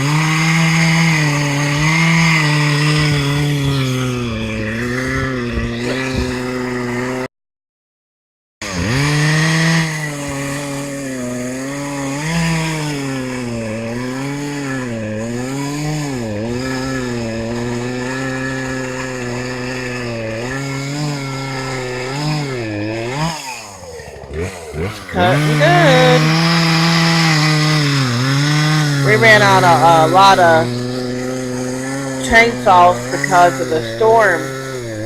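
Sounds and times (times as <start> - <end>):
chainsaw cutting into tree: 0.0 - 7.3, 8.6 - 35.0.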